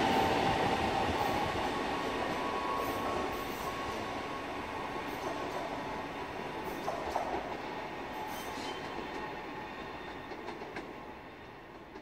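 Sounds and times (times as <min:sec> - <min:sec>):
electric train running along track: 0:00.0 - 0:12.0.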